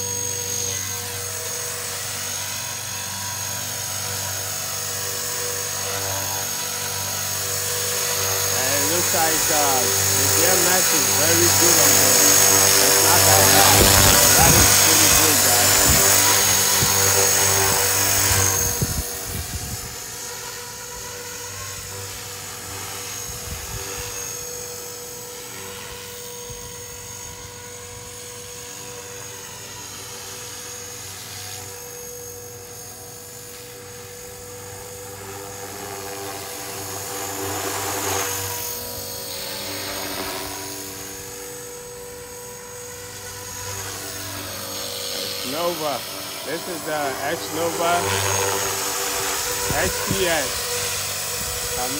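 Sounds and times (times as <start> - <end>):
rc helicopter rotor and motor whine: 0.0 - 51.9.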